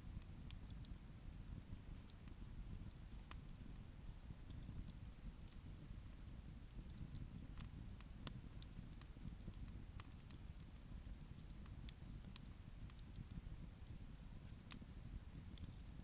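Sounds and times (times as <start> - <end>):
campfire crackling: 0.0 - 16.0
faint low rumble: 0.0 - 16.0.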